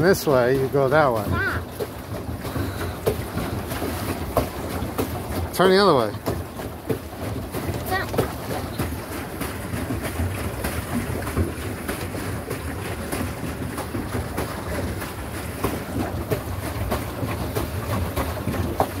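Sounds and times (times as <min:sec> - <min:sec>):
water splashing around pedal boat: 0:00.0 - 0:19.0.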